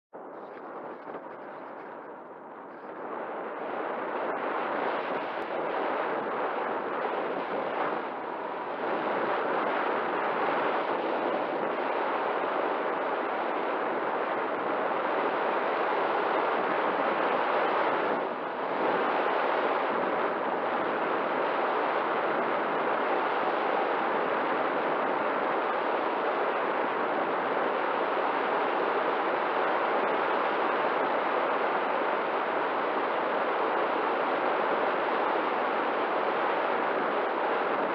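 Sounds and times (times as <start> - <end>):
wind rushing past microphone: 0.2 - 37.9.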